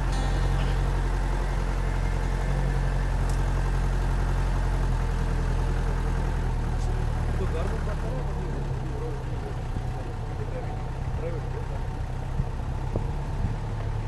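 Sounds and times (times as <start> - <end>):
jeep engine running low revs: 0.0 - 14.0.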